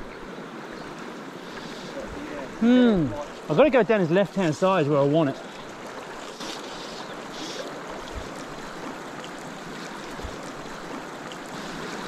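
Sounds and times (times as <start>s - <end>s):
river rushing over cobbles: 0.0s - 12.0s.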